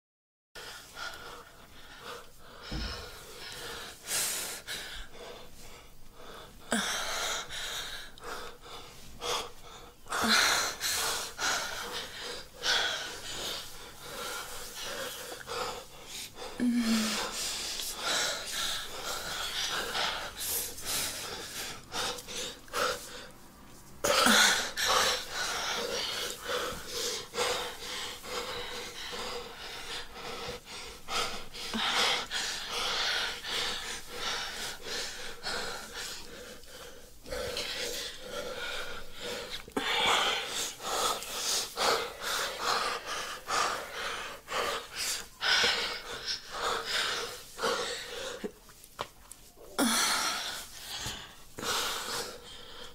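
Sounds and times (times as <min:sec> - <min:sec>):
person breathing heavily: 0:00.6 - 0:23.4, 0:24.0 - 0:48.8, 0:49.5 - 0:52.9.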